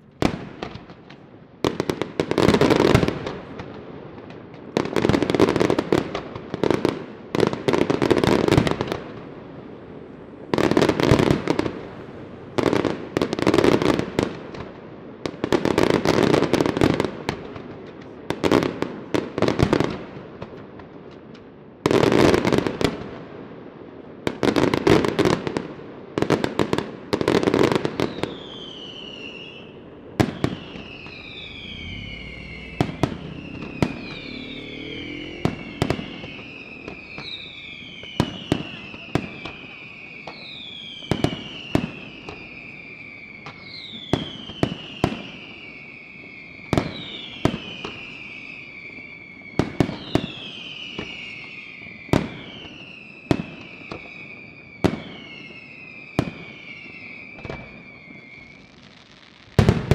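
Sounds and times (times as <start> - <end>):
falling firework whistles: 4.7 - 20.2, 24.3 - 59.9.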